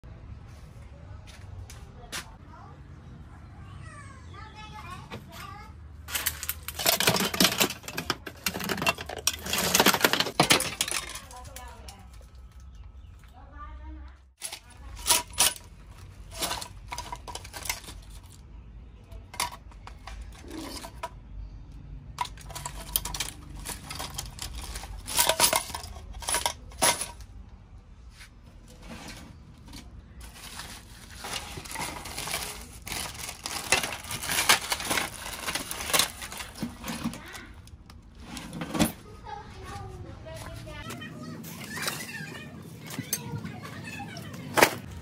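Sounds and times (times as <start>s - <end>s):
phone parts clattering in plastic baskets: 5.2s - 12.8s, 14.4s - 27.6s, 28.5s - 45.0s.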